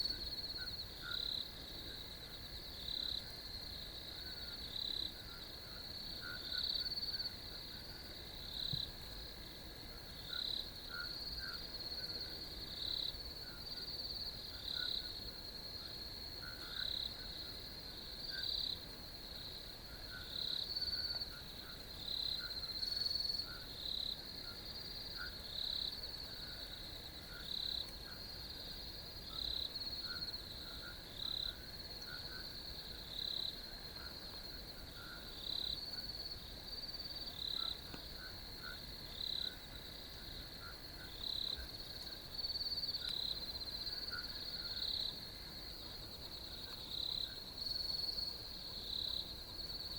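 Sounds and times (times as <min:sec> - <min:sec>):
low insect or frog chirps: 0:00.0 - 0:09.2, 0:10.1 - 0:18.8, 0:19.4 - 0:49.9
crickets trilling: 0:00.0 - 0:49.9
loud cricket chirps: 0:00.0 - 0:49.9.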